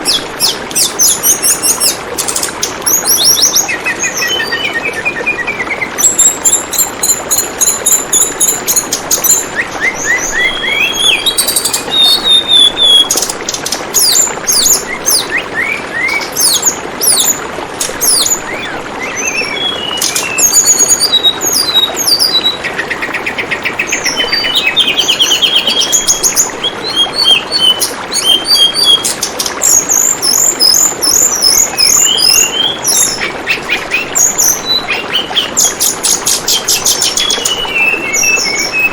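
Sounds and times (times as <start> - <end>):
bird chirping and trilling: 0.0 - 38.9
running water murmur: 0.0 - 38.9.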